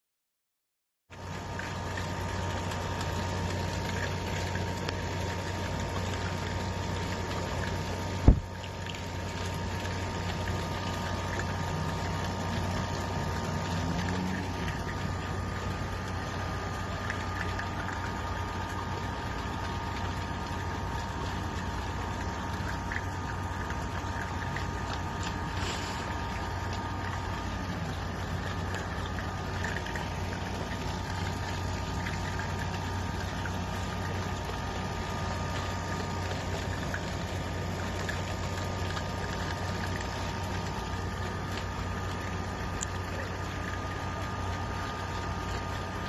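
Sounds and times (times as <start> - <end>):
machine humming: 1.2 - 46.0.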